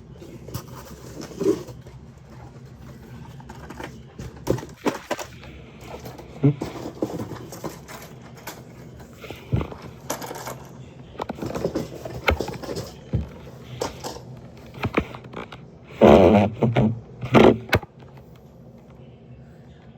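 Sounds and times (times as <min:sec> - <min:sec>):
plastic toys being handled: 0:00.0 - 0:18.9.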